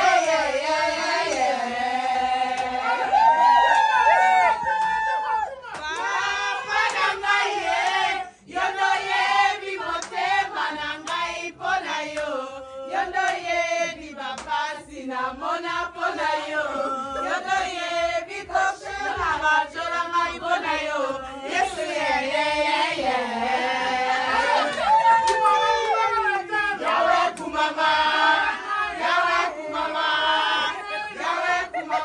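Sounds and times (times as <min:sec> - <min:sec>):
group chanting: 0:00.0 - 0:32.0.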